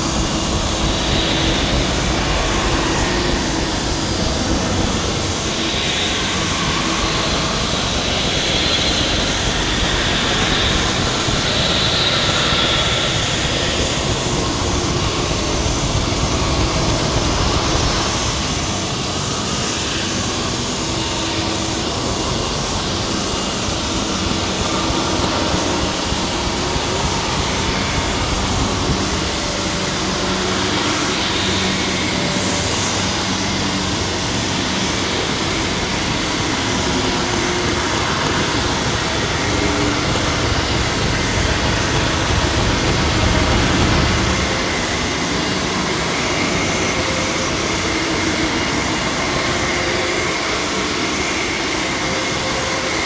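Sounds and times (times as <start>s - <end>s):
experimental noise music hiss and rumble: 0.0s - 52.9s.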